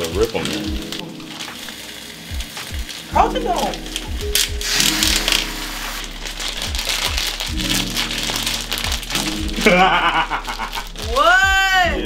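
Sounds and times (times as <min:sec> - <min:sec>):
music with deep bass notes: 0:00.0 - 0:12.0.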